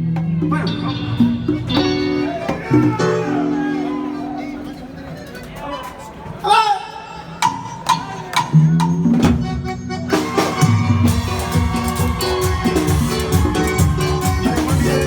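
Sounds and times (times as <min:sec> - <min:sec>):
live band playing latin dance music: 0:00.0 - 0:05.9, 0:07.3 - 0:15.0.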